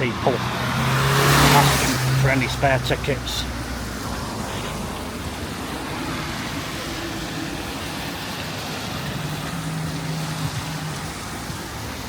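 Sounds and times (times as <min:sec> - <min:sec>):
road traffic going by: 0:00.0 - 0:12.0.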